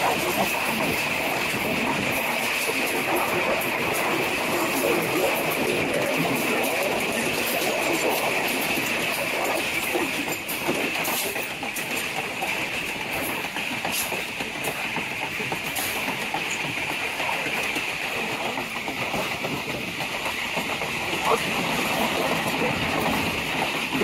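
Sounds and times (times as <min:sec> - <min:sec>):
sharp clacks of train wheels: 0:00.0 - 0:24.0
train wheels rumbling on rails: 0:00.0 - 0:24.0.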